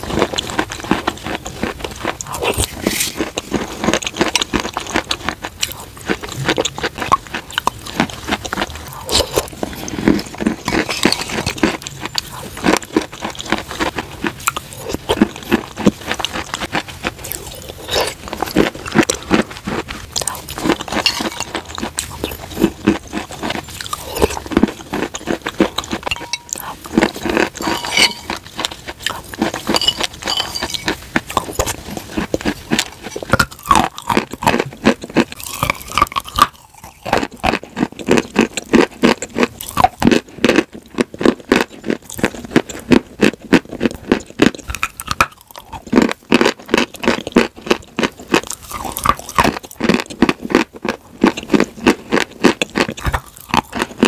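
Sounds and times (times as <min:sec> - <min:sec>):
chewing crunchy chunks: 0:00.0 - 0:54.0.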